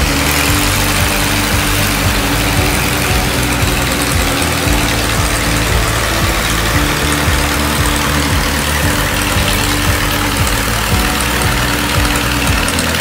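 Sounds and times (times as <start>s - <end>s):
music playing: 0.0s - 13.0s
propeller plane engine running: 0.0s - 13.0s.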